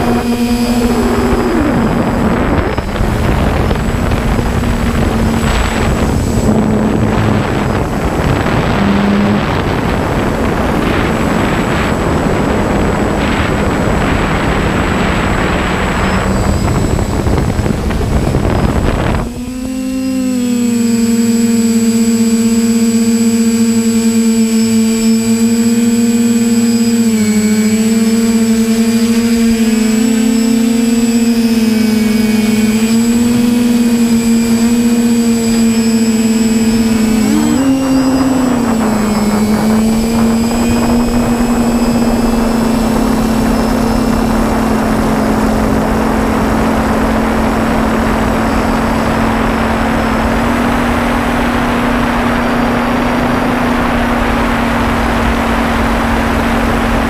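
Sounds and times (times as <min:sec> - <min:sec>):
drone motors whining: 0:00.0 - 0:57.0
wind rush on microphone: 0:00.0 - 0:57.0.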